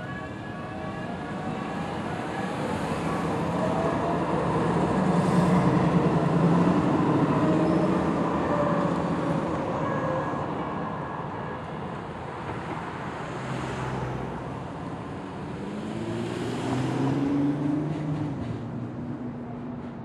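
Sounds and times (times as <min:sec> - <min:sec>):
light-rail train passing: 0:00.0 - 0:16.8, 0:17.4 - 0:20.0.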